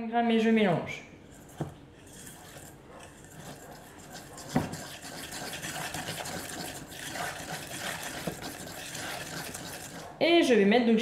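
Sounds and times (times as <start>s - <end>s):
utensil scraping metal bowl: 1.2s - 10.2s.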